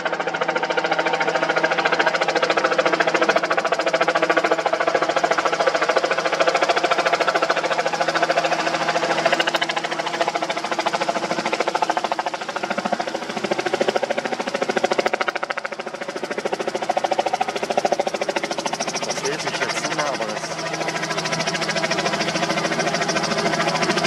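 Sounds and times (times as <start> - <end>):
engine running with fast pulse: 0.0 - 24.0.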